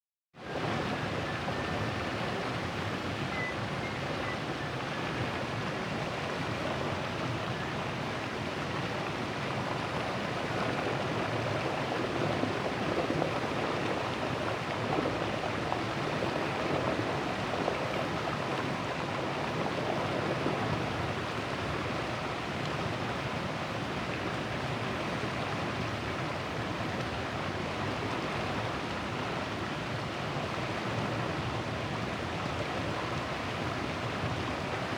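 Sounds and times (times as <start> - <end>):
river water rushing: 0.5 - 34.9.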